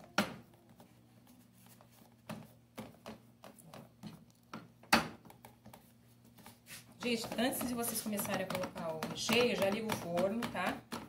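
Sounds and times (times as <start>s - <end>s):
hands patting dough in metal tray: 0.0s - 11.0s.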